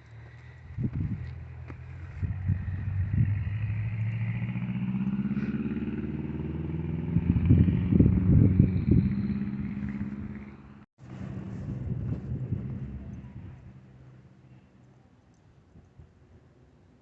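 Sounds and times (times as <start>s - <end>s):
wind buffeting microphone: 0.0s - 14.2s
vehicle engine running: 0.0s - 14.7s.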